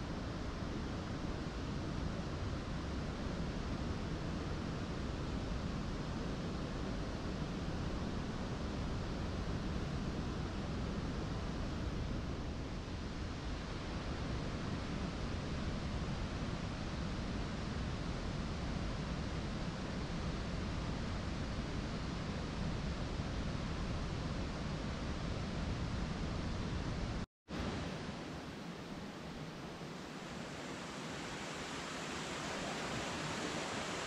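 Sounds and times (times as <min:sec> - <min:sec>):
wind rumble and hiss: 0:00.0 - 0:34.0.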